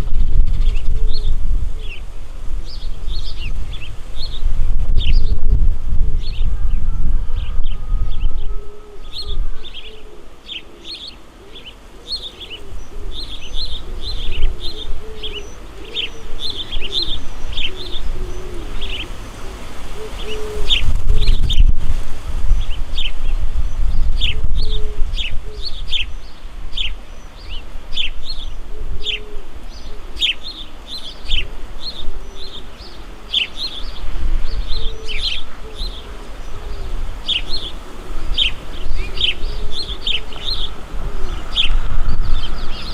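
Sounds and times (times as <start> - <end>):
small birds chirping: 0.0 - 8.3, 9.0 - 21.8, 22.5 - 42.9
low cooing calls: 0.0 - 42.9.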